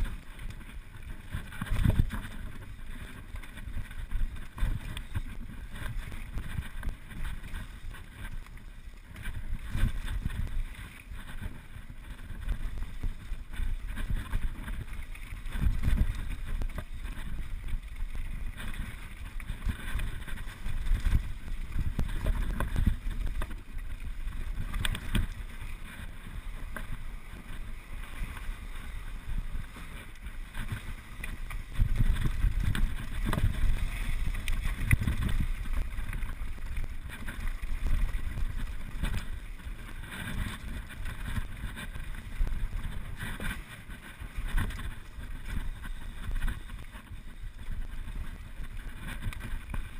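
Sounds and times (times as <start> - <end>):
bike clicks and clatter: 0.0 - 49.9
bike tyre rumble: 0.0 - 49.9
wind buffeting microphone: 0.0 - 49.9.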